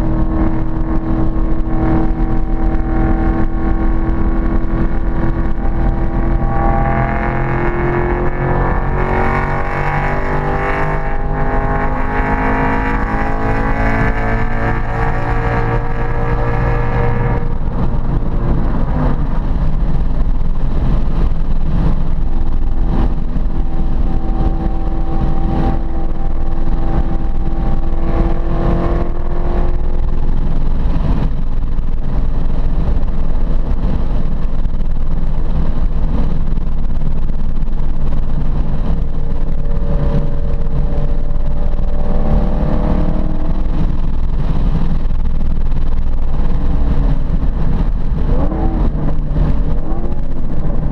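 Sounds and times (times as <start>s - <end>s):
car engine revving hard: 0.0s - 31.4s, 38.2s - 50.9s
tyre and road noise: 0.0s - 50.9s.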